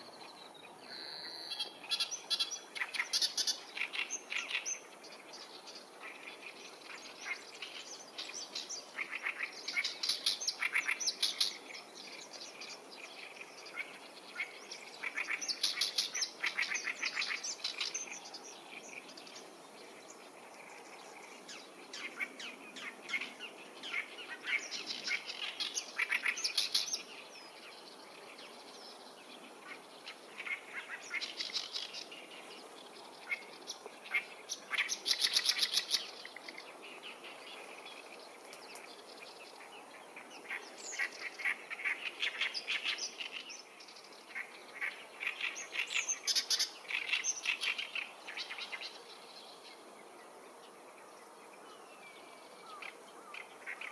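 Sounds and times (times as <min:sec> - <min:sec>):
birds chattering: 0:00.0 - 0:53.9.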